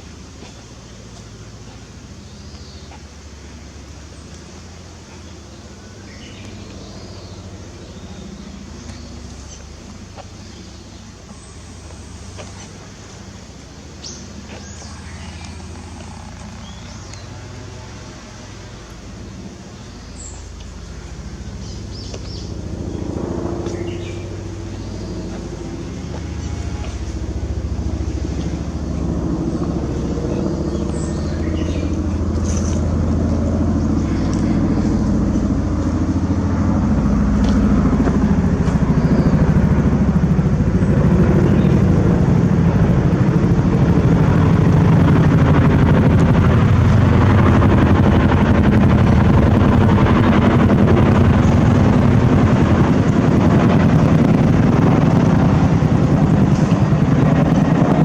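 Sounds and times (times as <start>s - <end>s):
low engine drone: 0.0s - 58.0s.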